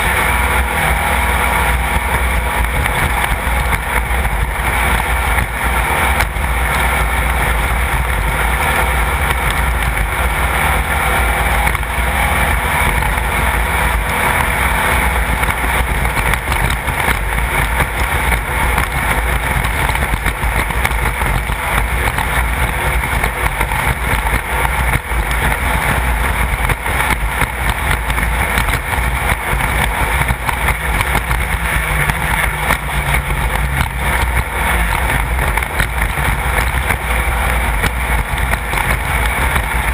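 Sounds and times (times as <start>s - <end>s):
knocks and rattles over rough ground: 0.0s - 39.9s
race car engine running loudly: 0.0s - 39.9s.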